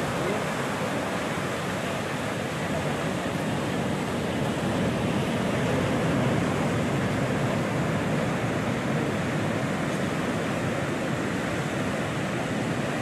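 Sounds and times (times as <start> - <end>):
ocean surf washing over rocks: 0.0 - 13.0.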